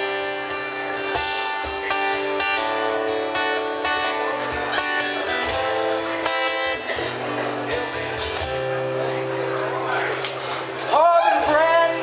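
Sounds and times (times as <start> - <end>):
acoustic guitar strummed and picked: 0.0 - 12.0.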